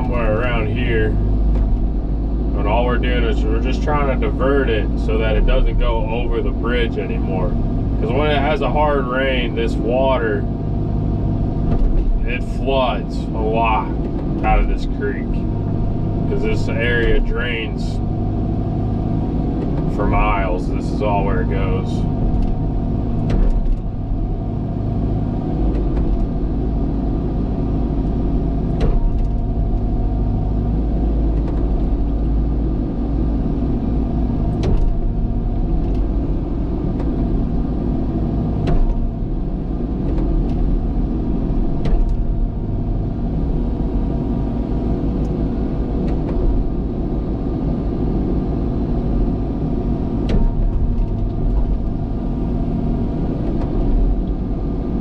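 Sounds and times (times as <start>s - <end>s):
earthmoving diesel engine running: 0.0s - 55.0s.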